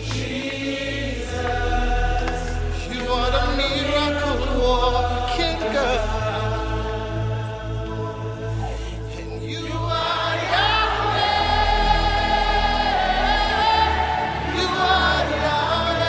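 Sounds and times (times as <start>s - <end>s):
gospel choir singing: 0.0s - 16.0s.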